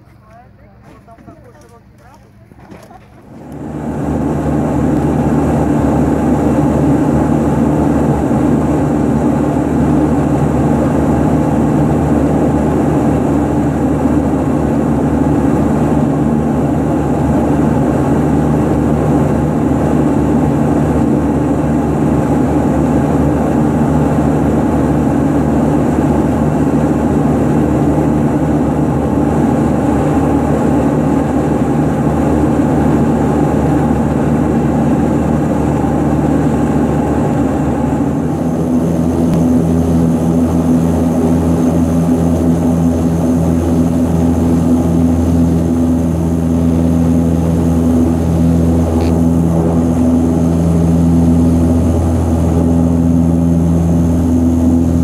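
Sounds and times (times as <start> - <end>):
turboprop engines idling: 0.0 - 55.0.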